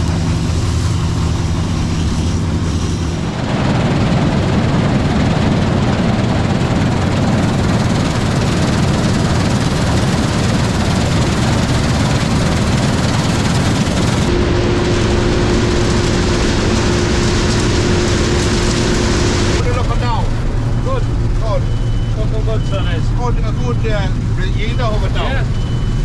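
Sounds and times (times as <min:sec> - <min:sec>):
combine harvester running: 0:00.0 - 0:26.0
steady mechanical whine: 0:00.0 - 0:26.0.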